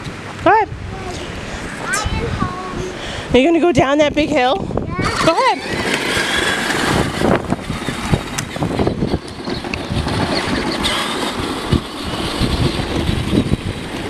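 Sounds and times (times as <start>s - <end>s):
low rumbling noise: 0.0s - 14.0s
wind on microphone: 0.0s - 14.0s.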